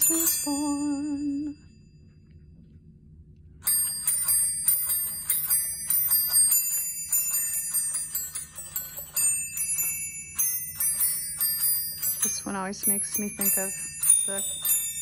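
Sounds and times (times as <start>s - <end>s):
small bells playing a melody: 0.0s - 1.8s, 3.6s - 15.0s.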